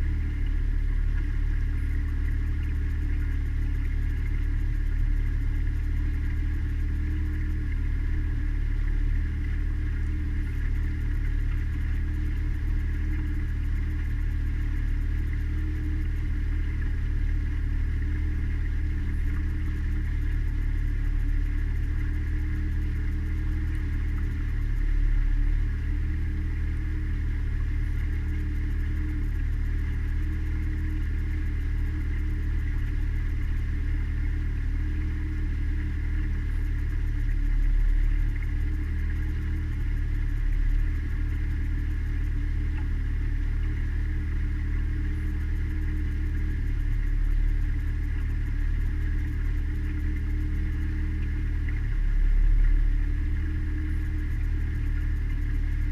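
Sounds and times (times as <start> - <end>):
outboard motor droning: 0.0 - 55.9.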